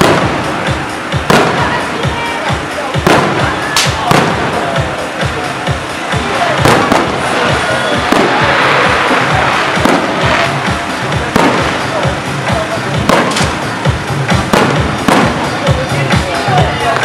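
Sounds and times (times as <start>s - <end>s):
firecrackers popping and banging: 0.0s - 17.0s
loud beat-driven music: 0.0s - 17.0s.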